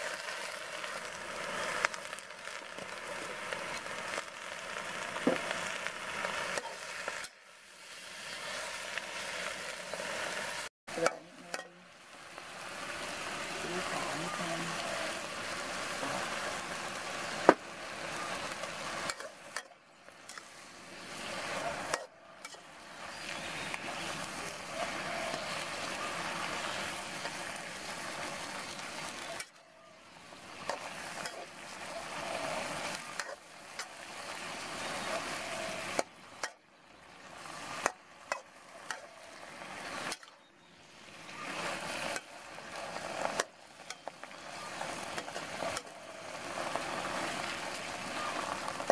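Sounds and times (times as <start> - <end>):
greens sizzling in wok: 0.0 - 48.9.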